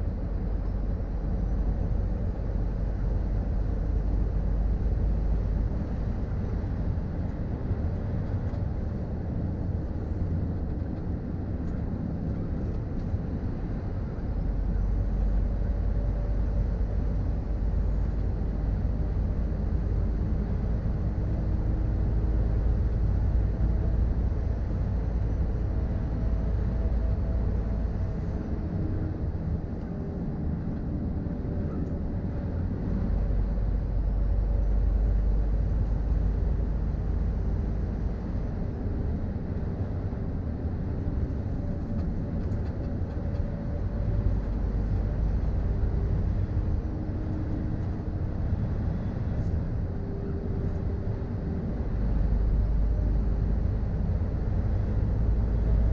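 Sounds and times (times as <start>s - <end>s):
diesel engine drone: 0.0s - 55.9s
road rumble: 0.0s - 55.9s.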